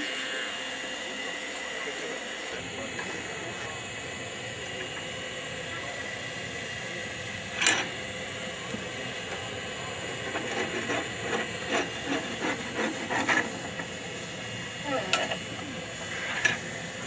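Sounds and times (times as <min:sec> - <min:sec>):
forge fire hissing: 0:00.0 - 0:17.0.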